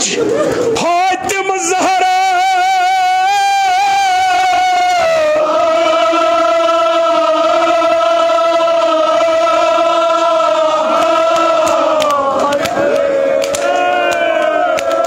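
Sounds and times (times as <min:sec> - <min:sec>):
person chanting a lament: 0:00.0 - 0:15.0.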